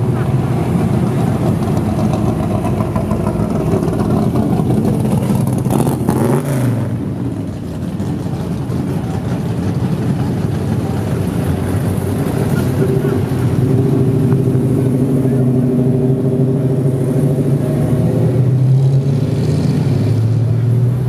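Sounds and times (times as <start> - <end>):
car engines rumbling past: 0.0 - 21.0.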